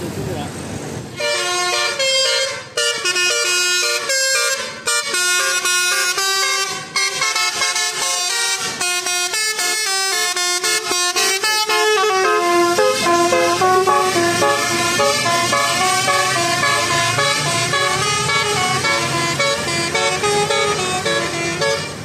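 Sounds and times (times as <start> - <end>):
bus air horns playing tune: 1.2 - 22.0.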